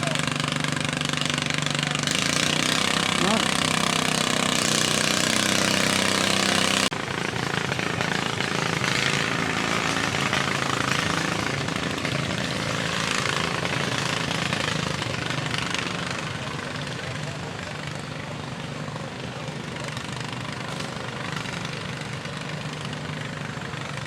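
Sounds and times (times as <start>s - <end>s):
engine running at high revs: 0.0s - 24.0s
rough noisy engine: 0.0s - 24.0s.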